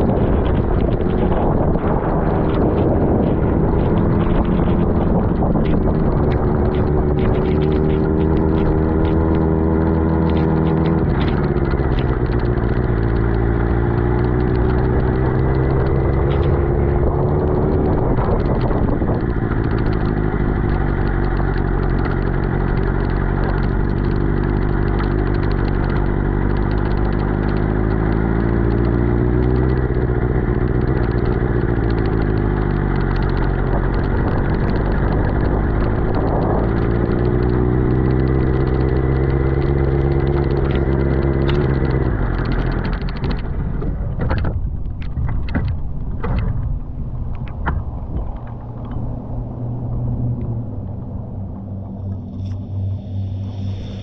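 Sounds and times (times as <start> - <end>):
motorcycle engine running: 0.0 - 54.0
wet road and wind hiss: 0.0 - 54.0.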